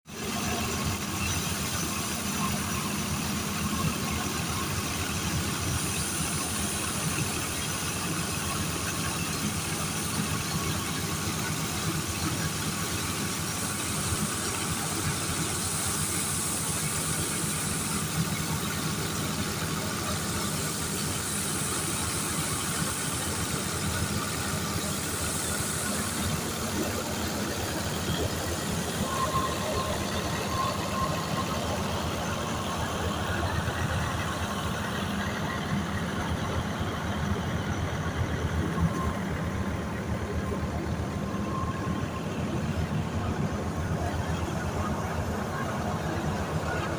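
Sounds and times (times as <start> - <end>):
thresher running with mechanical hum: 0.1 - 46.9.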